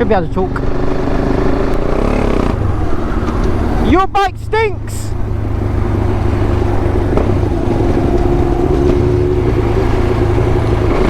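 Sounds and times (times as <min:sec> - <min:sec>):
motorcycle engine cruising: 0:00.0 - 0:11.0
wind rumble: 0:00.0 - 0:11.0.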